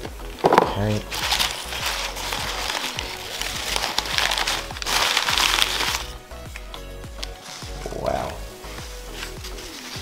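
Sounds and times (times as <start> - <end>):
packing paper rustling: 0.0 - 10.0
soft background music: 0.0 - 10.0.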